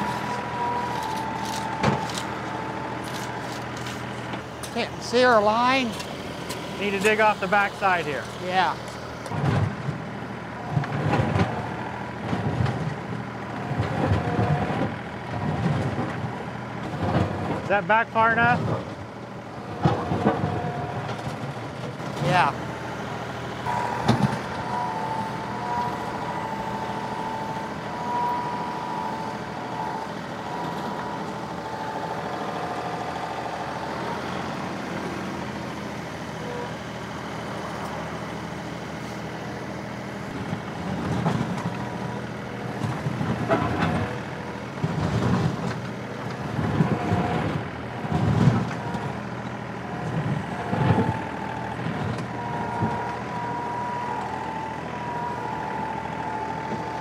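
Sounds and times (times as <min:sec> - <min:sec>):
engine loading bursts: 0:00.0 - 0:57.0
tractor diesel engine running: 0:00.0 - 0:57.0.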